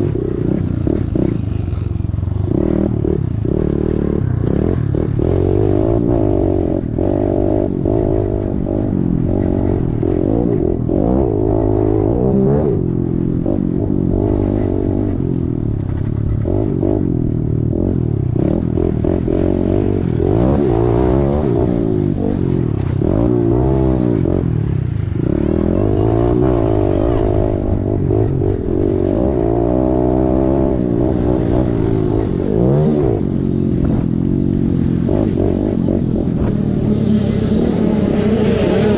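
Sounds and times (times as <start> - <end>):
small motorcycle engine revving: 0.0 - 38.9.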